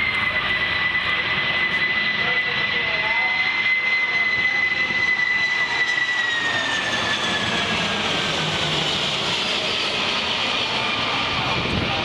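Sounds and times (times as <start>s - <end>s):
high engine whine: 0.0s - 12.0s
jet engines flying past: 0.0s - 12.0s.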